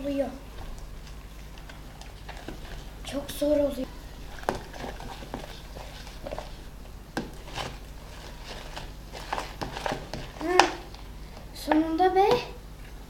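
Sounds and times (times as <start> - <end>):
slime being stirred by hand: 0.0 - 12.9.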